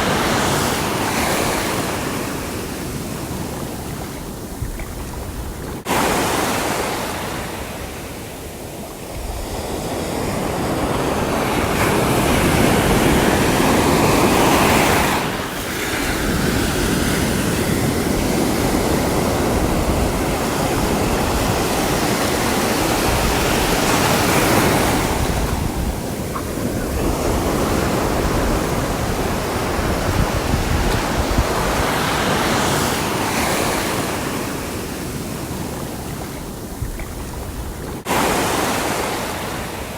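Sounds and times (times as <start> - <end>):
sea waves breaking ashore: 0.0 - 39.9.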